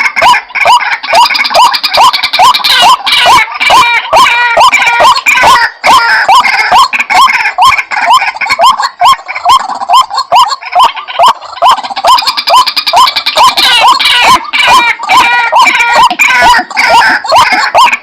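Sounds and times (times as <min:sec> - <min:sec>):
waterhen calls: 0:00.0 - 0:18.0.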